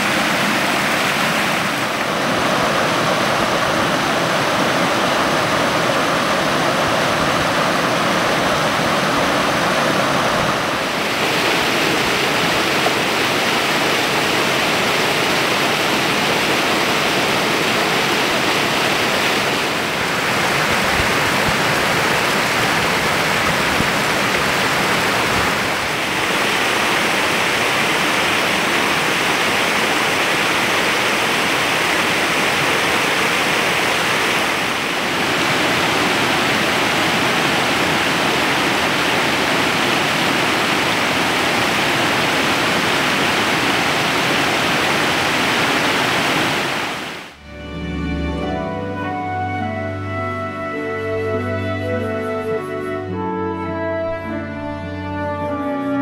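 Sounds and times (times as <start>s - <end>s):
stream rushing over rocks: 0.0s - 47.4s.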